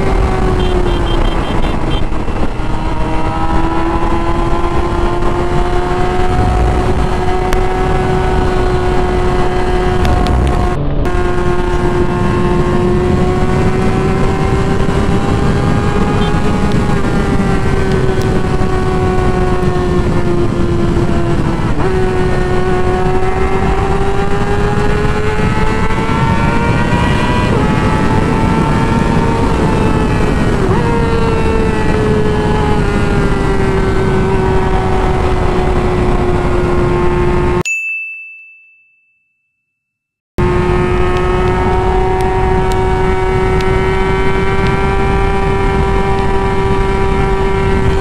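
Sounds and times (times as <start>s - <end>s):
motorcycle engine at high revs: 0.0s - 37.6s, 40.4s - 48.0s
wind noise on microphone: 0.0s - 37.6s, 40.4s - 48.0s.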